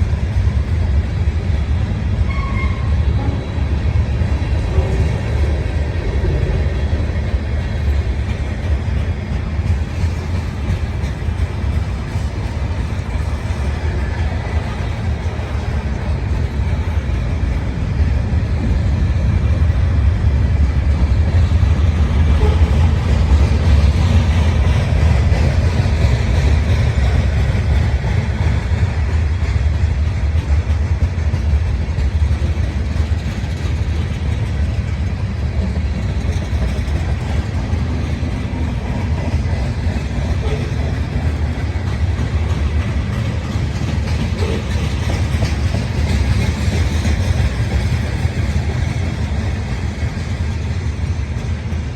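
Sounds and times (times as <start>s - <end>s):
train wheels rumbling: 0.0s - 51.9s.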